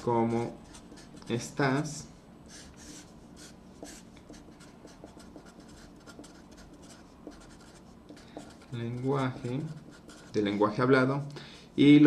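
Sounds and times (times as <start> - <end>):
marker scratching on paper: 0.0 - 10.7.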